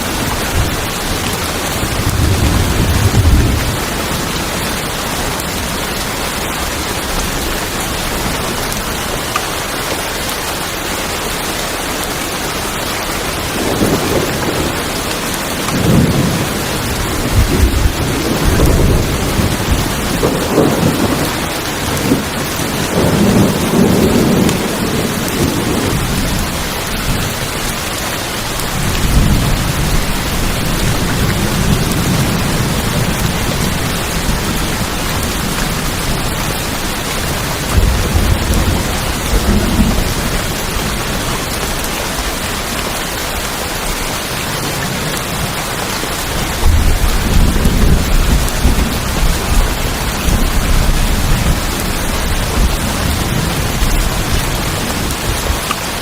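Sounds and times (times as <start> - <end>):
thunder rumbling: 0.0 - 9.3, 13.2 - 42.9, 43.8 - 56.0
heavy rain on a tin roof: 0.0 - 56.0.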